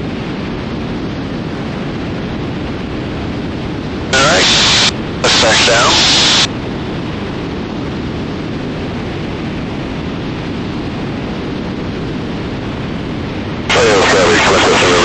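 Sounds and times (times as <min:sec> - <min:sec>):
airplane engine in flight: 0:00.0 - 0:15.0.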